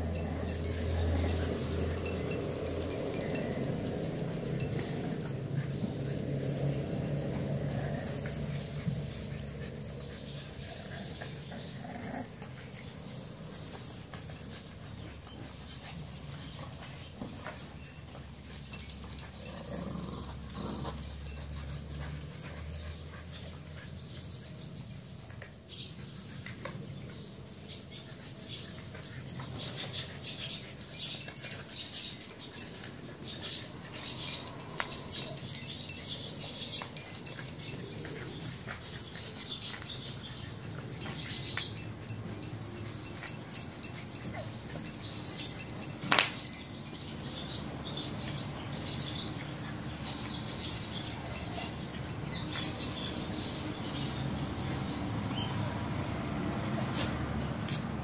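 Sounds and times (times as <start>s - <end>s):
puppy sounds: 0.0s - 58.0s.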